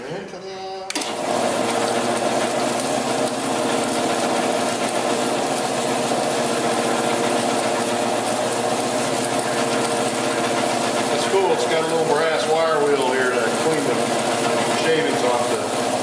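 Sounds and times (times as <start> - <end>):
band saw whirring: 0.9 - 16.0.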